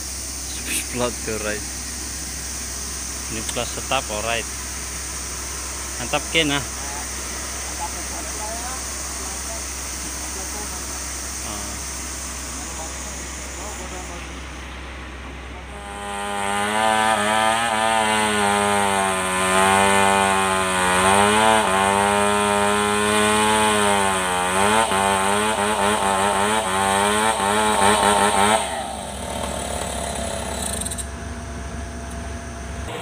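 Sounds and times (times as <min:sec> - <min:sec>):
chainsaw cutting log: 0:03.2 - 0:14.2, 0:15.6 - 0:31.1.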